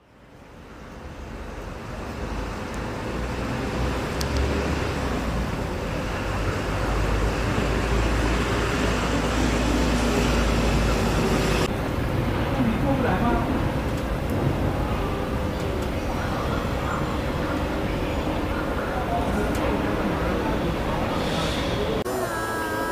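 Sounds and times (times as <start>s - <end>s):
street traffic rumble: 0.0s - 22.9s.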